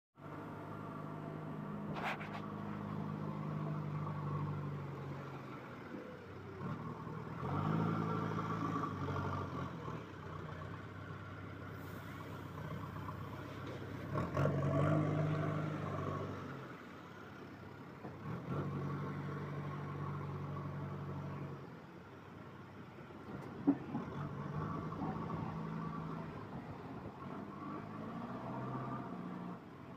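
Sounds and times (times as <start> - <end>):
diesel engine revving: 0.2 - 21.9, 23.0 - 29.9.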